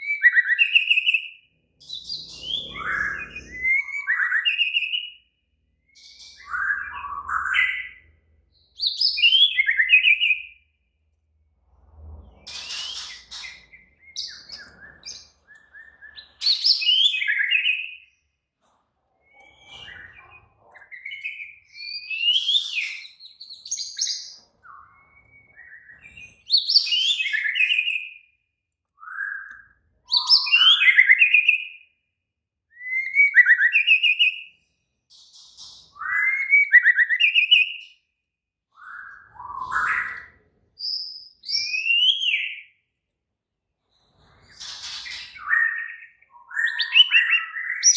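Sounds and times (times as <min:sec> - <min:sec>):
bird singing trills and whistles: 0:00.0 - 0:10.6, 0:12.5 - 0:18.2, 0:19.2 - 0:28.4, 0:29.0 - 0:31.9, 0:32.7 - 0:38.0, 0:38.7 - 0:42.8, 0:44.5 - 0:47.9.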